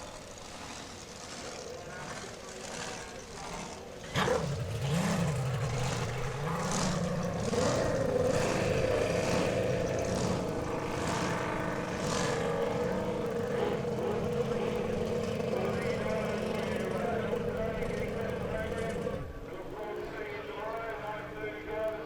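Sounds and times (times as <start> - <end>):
hydroplane engine running hard: 0.0 - 19.5.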